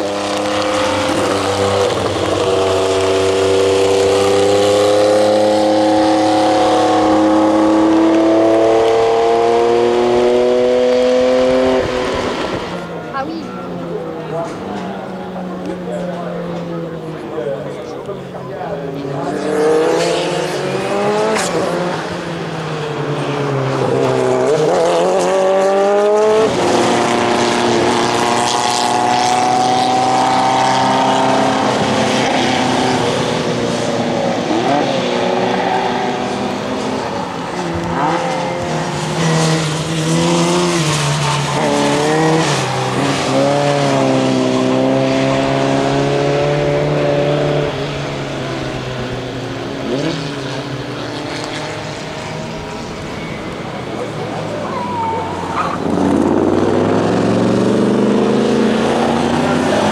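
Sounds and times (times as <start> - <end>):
racing car engines passing: 0.0 - 59.9.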